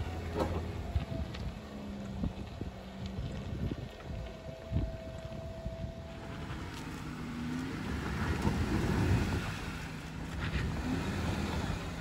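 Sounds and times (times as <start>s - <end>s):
car engine at low speed: 0.0s - 12.0s.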